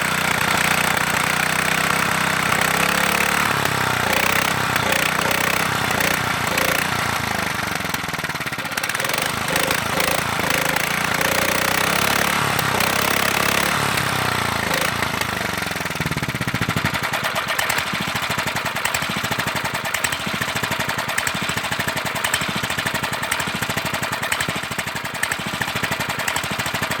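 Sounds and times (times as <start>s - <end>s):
single-cylinder engine running: 0.0s - 27.0s.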